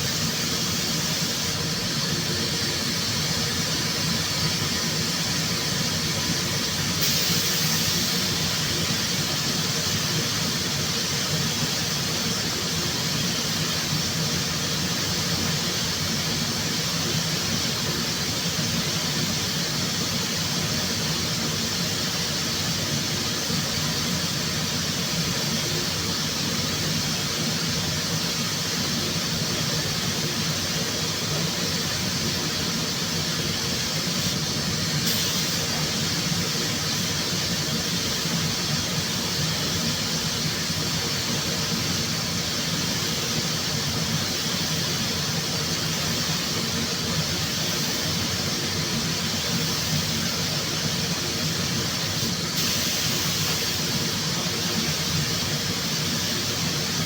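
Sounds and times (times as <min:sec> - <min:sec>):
continuous hiss: 0:00.0 - 0:57.0.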